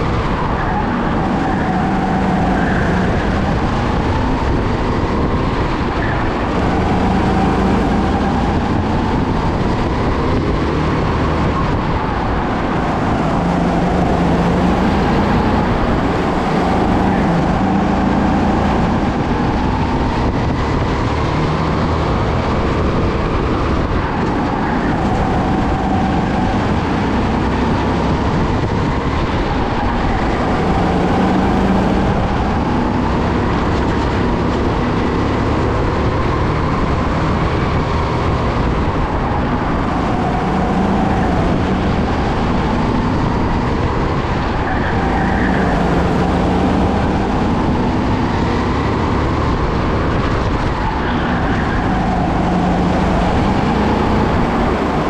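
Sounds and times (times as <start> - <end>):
loud rush of noise: 0.0 - 55.0.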